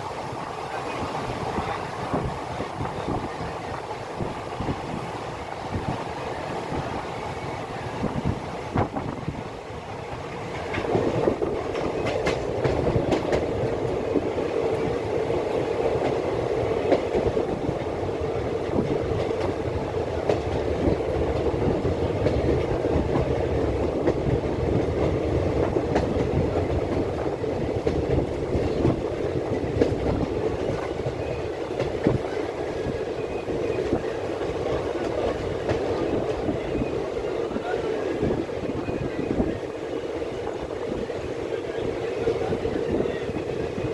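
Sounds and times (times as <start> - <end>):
train rumbling along track: 0.0 - 43.9.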